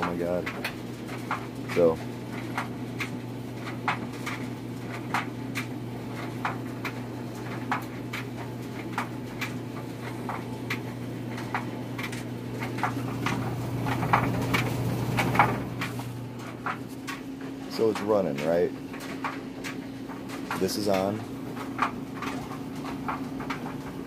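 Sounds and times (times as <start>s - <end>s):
clothes dryer humming: 0.0s - 24.0s.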